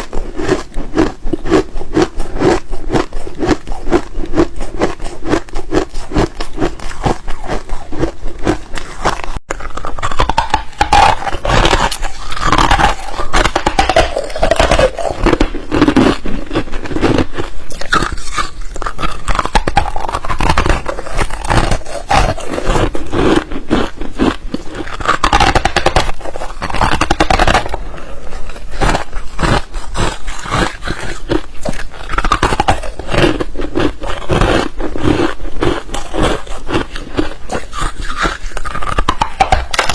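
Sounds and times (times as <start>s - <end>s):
ice being chewed crunching: 0.0s - 39.9s
ice squeaking against teeth: 0.0s - 39.9s.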